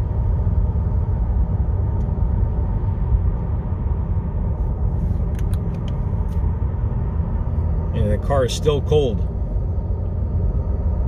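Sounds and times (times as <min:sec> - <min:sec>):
road and engine rumble in car cabin: 0:00.0 - 0:11.0.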